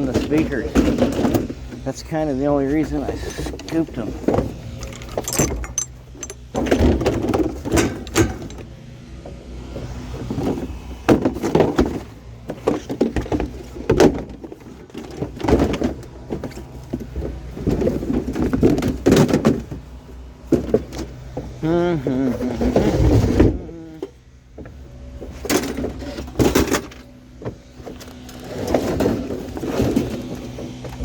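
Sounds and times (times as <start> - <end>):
low engine hum: 0.0 - 31.0
scrap items knocking and thudding: 0.0 - 31.0.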